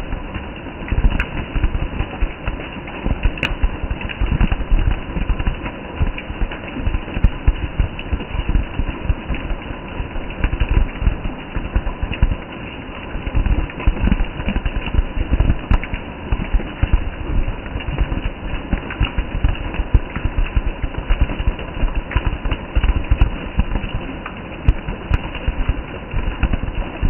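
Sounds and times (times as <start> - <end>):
rain falling on leaves: 0.0 - 27.0.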